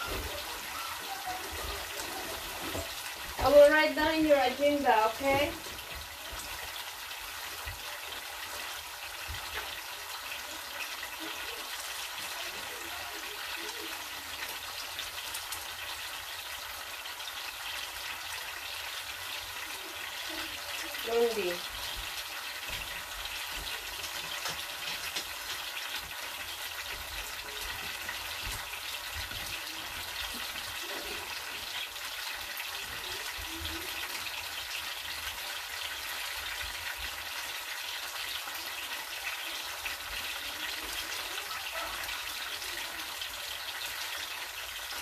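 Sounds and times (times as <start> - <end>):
mixture simmering in a frying pan: 0.0 - 45.0.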